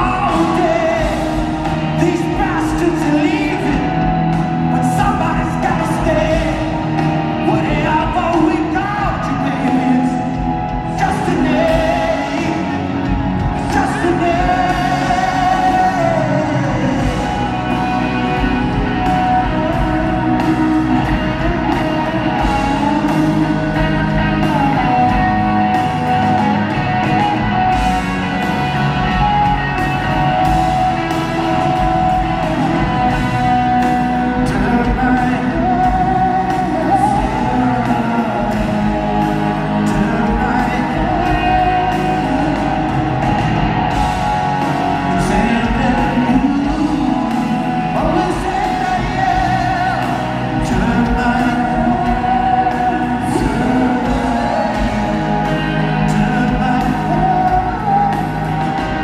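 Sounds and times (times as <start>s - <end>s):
live rock band playing: 0.0s - 59.0s
man singing lead: 0.0s - 59.0s.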